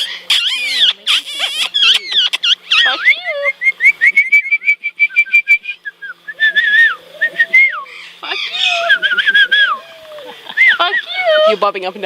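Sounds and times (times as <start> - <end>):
parrot whistling: 0.0 - 10.0, 10.6 - 11.4.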